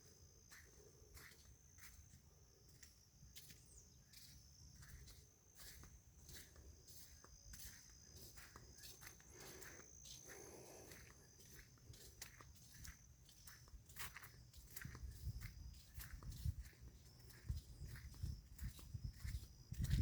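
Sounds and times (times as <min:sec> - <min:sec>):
faint footsteps: 0:00.0 - 0:20.0
high-pitched insect drone: 0:00.4 - 0:20.0.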